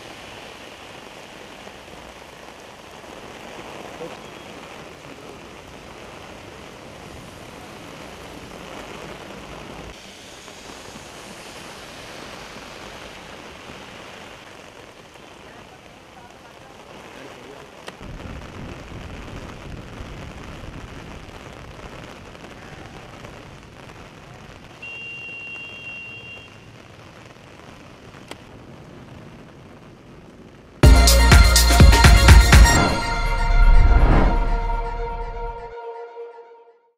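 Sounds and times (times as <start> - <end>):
heavy rain on wet road: 0.0 - 30.9.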